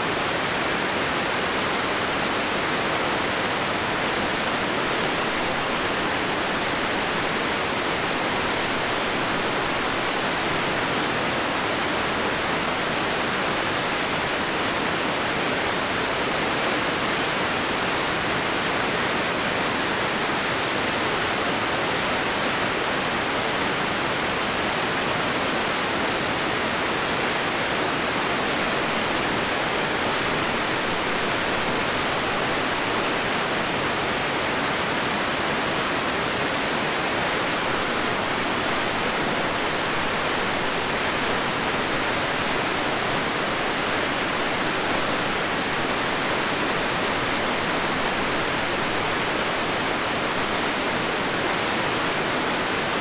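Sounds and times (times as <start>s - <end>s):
water rushing over rocks: 0.0s - 53.0s.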